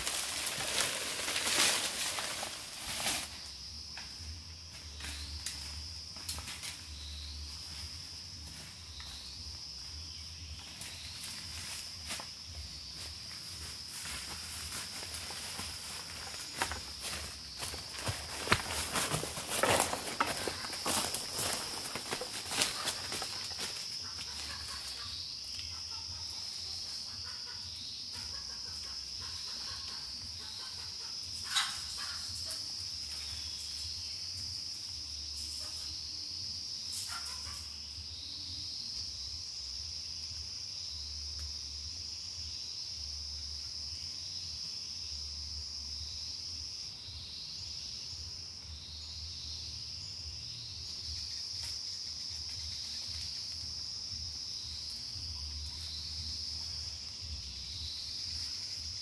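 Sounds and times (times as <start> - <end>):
insect chirp: 0.0 - 59.0
insects droning: 0.0 - 59.0.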